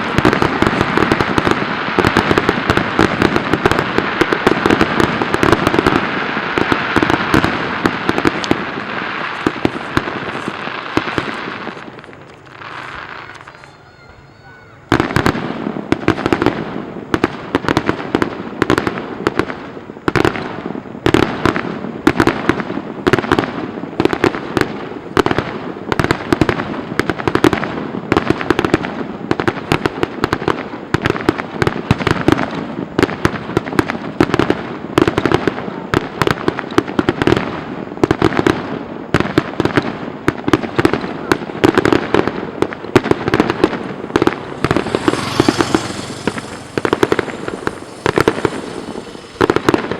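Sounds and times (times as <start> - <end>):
fireworks barrage of bangs: 0.0 - 49.9.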